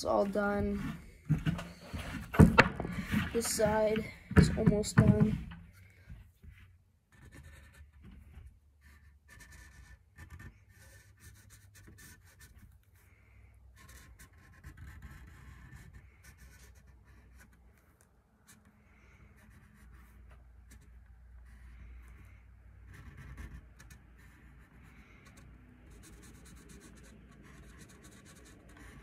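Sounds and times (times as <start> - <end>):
marker scratching on wood: 0.0 - 5.5, 6.4 - 13.0, 13.8 - 29.0.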